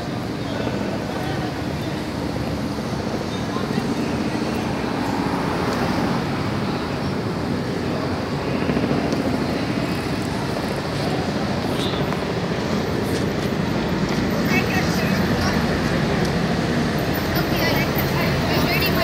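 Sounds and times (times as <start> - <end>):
outdoor street noise: 0.0 - 19.0.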